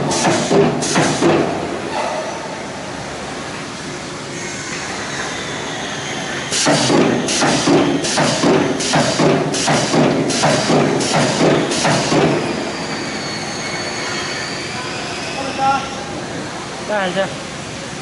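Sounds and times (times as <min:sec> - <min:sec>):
factory hum: 0:00.0 - 0:18.0.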